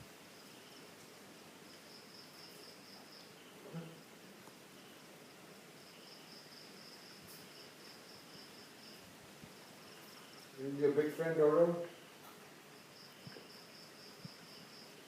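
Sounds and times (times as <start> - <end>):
insects trilling: 0.3 - 1.0, 1.7 - 4.2, 4.8 - 15.0.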